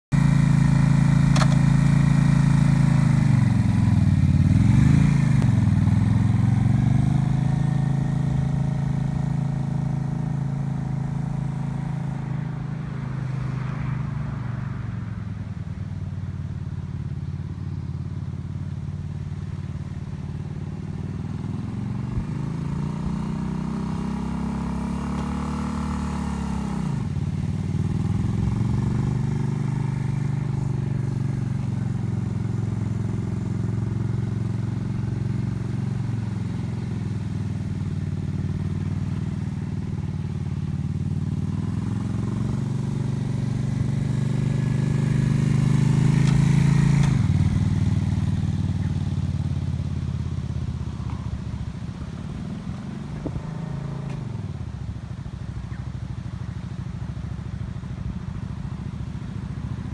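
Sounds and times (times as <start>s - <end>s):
motorcycle engine running: 0.1s - 59.9s.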